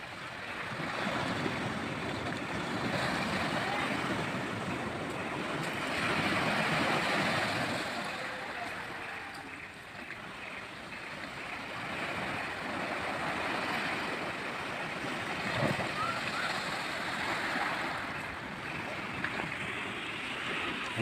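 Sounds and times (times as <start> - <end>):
waves washing over beach: 0.0 - 21.0.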